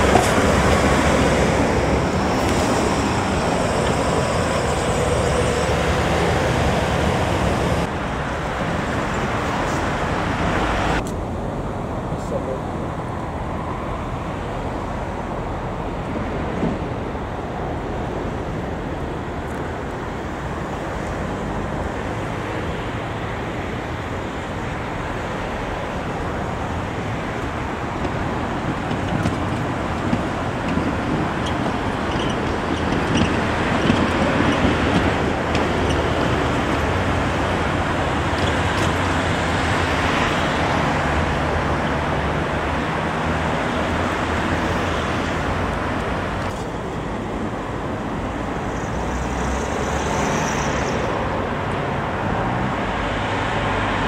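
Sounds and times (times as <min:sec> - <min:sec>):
tram rumbling: 0:00.0 - 0:54.0.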